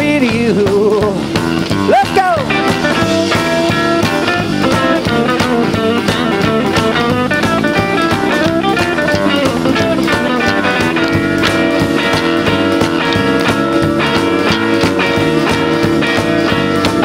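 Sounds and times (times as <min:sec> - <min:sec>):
steady drum beat: 0:00.0 - 0:17.0
electric guitars picking quick notes: 0:01.2 - 0:17.0.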